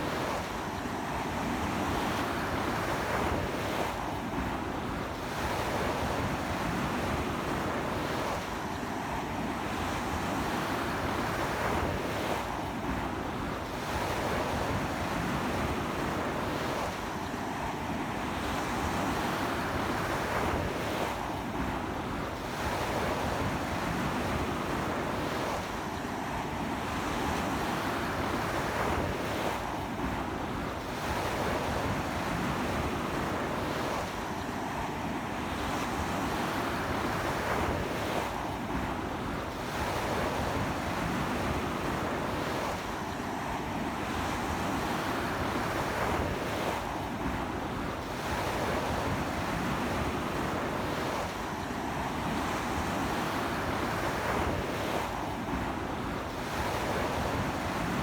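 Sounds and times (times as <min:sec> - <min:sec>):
ocean waves breaking on shore: 0:00.0 - 0:58.0
strong sea wind: 0:00.0 - 0:58.0.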